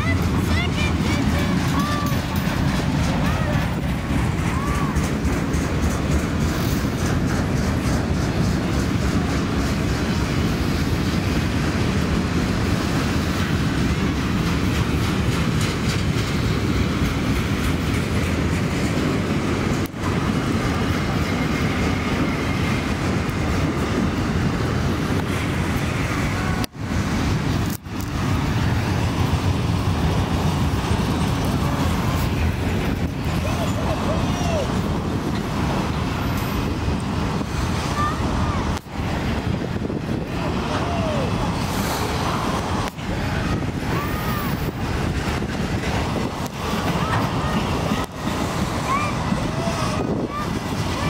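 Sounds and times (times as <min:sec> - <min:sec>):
train wheels rolling on rails: 0:00.0 - 0:51.0.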